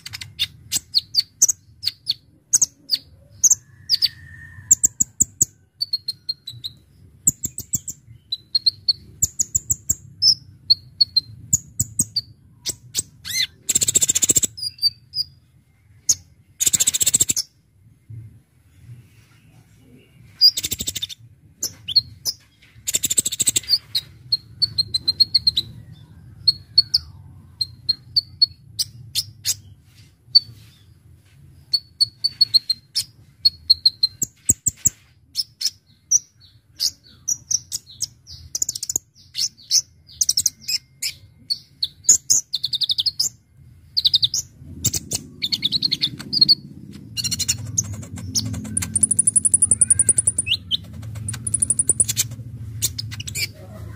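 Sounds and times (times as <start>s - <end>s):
bird chirping and trilling: 0.0s - 15.4s, 16.0s - 17.6s, 19.9s - 29.8s, 35.4s - 53.6s.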